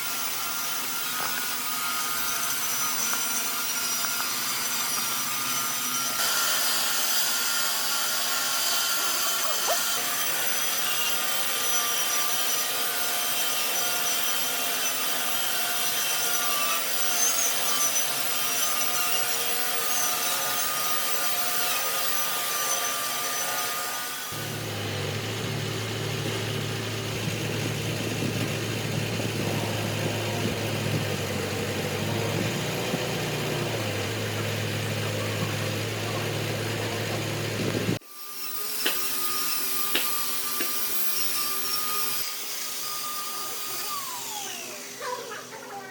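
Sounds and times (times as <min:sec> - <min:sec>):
power tool working wood: 0:00.0 - 0:45.9.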